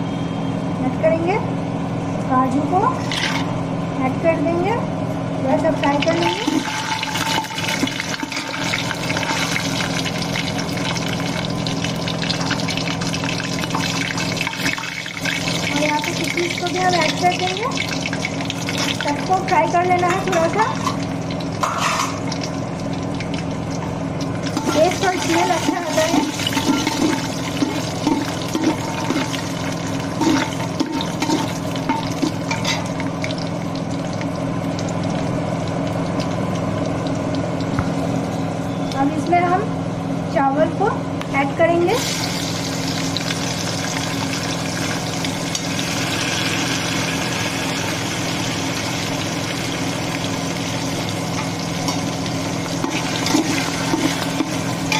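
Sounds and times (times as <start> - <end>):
food frying in hot oil: 5.4 - 40.6, 41.4 - 54.9.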